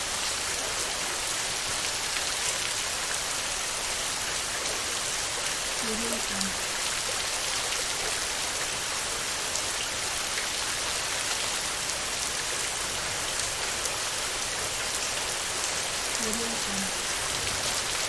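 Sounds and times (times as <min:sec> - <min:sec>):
heavy rain on a metal roof: 0:00.0 - 0:18.0.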